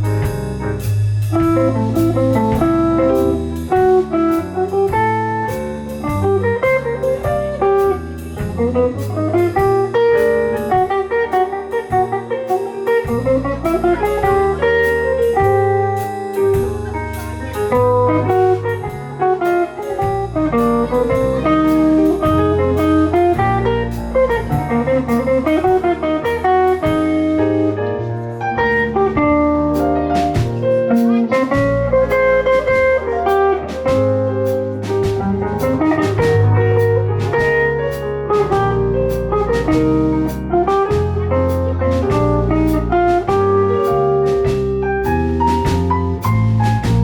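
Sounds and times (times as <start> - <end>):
guitar: 0.0 - 47.0
jazz blues band playing: 0.0 - 47.0.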